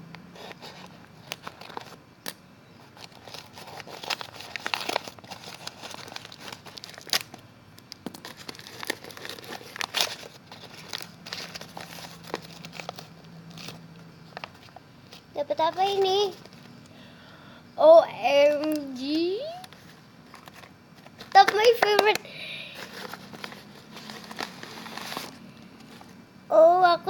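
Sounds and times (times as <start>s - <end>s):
packaging crinkling and tearing: 0.4s - 16.9s, 18.5s - 26.2s.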